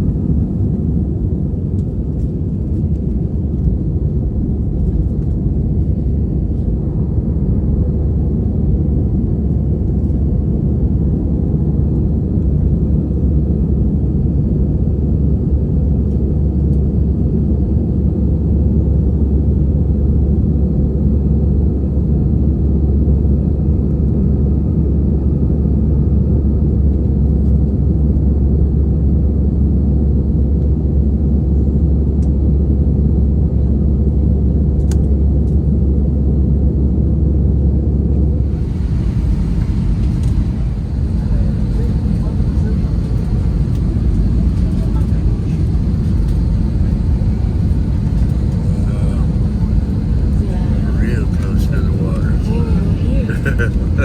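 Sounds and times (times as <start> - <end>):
airliner engines rumbling in cabin: 0.0 - 54.0.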